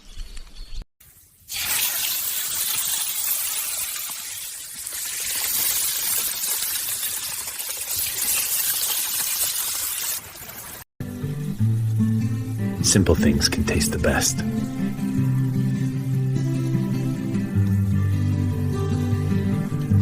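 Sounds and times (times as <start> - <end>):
food sizzling in frying: 1.0 - 19.9.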